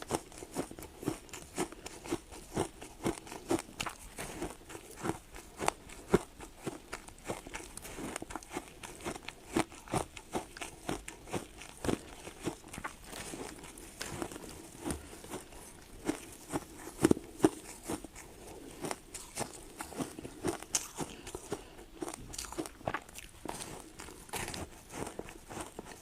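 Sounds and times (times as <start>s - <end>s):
ice crunching between teeth: 0.0s - 26.0s.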